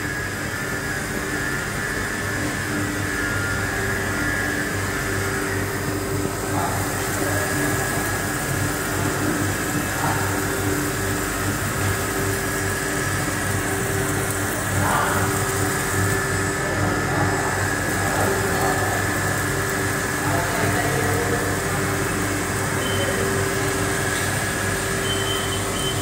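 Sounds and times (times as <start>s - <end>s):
machine humming with low pulsing: 0.0s - 26.0s.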